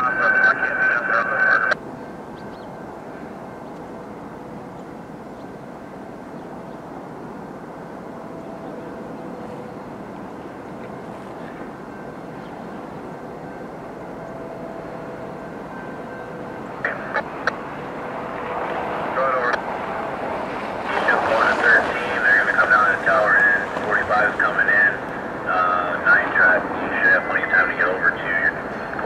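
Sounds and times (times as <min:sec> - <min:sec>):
diesel locomotive rumbling: 0:00.0 - 0:29.0.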